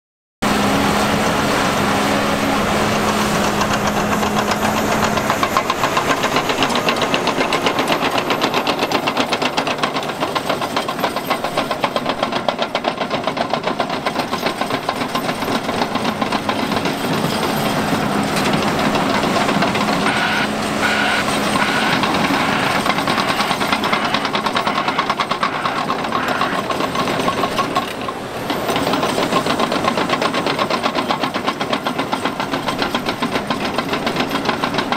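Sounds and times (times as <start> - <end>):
heavy diesel engines running: 0.4 - 34.9.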